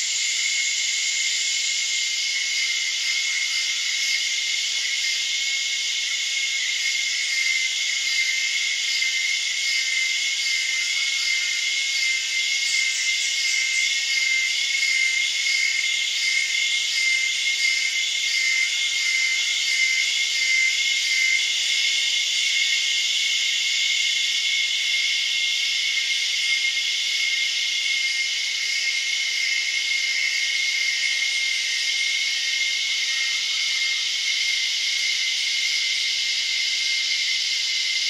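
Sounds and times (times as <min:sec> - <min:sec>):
cicada chorus buzzing: 0:00.0 - 0:38.0.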